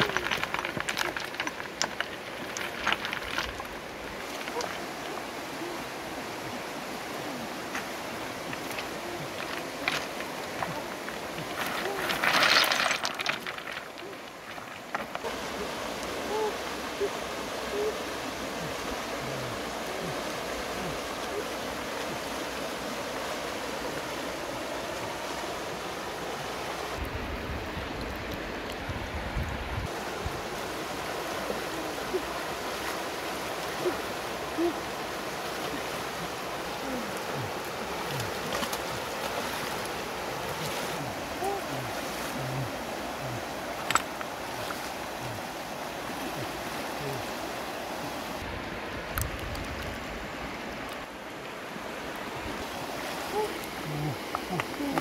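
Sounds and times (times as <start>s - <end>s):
fast-flowing river rushing: 0.0s - 29.2s, 29.8s - 55.0s.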